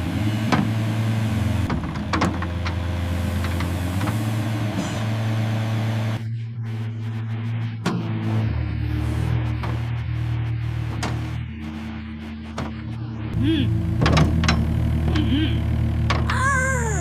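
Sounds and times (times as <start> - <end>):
excavator engine humming: 0.0 - 17.0.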